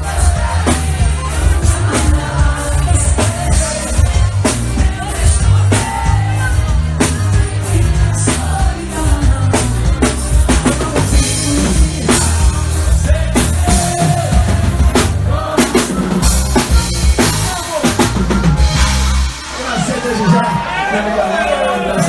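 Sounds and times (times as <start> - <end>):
drum strokes: 0.0 - 20.2
live band playing: 0.0 - 22.0.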